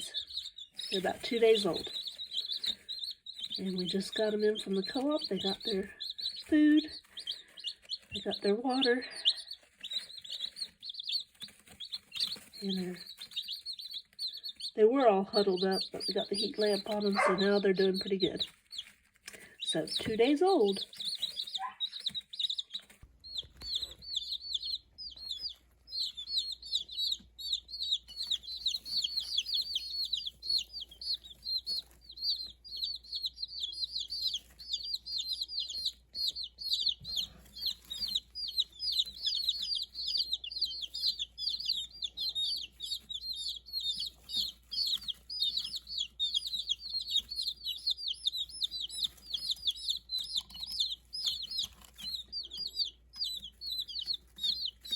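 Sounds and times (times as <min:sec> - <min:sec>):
chicks peeping: 0:00.0 - 0:54.9.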